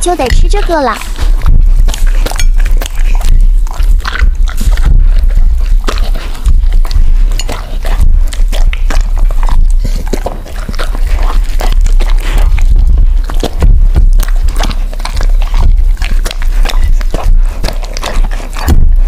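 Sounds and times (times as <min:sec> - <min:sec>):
dogs licking and chewing: 0:00.0 - 0:19.0.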